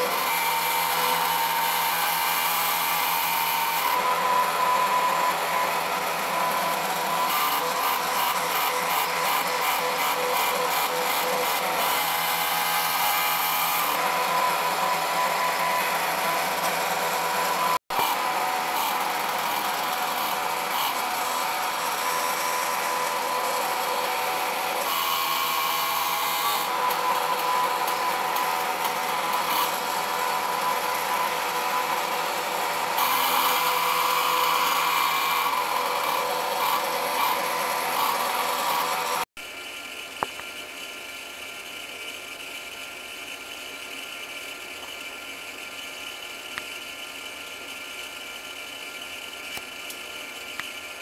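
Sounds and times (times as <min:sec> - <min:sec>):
mill axis motors whirring: 0:00.0 - 0:51.0.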